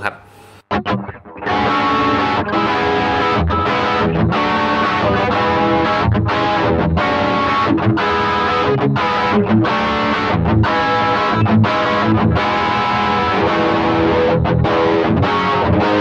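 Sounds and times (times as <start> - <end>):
overdriven electric guitar: 0.3 - 16.0.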